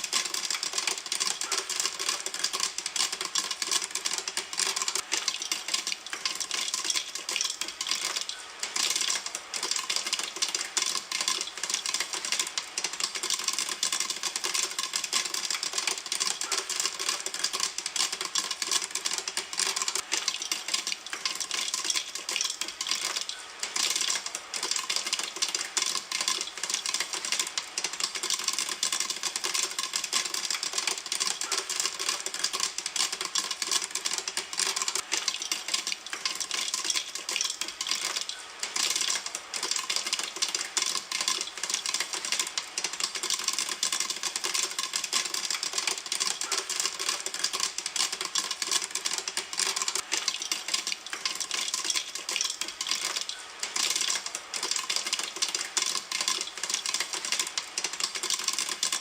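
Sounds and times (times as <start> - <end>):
popcorn popping in a pan: 0.0 - 59.0.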